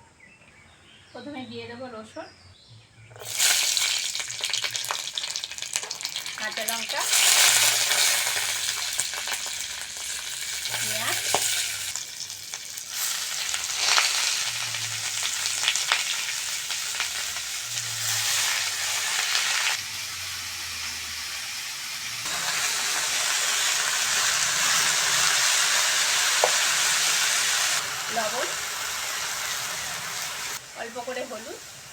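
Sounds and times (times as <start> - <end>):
vegetables sizzling in hot oil: 3.1 - 31.9.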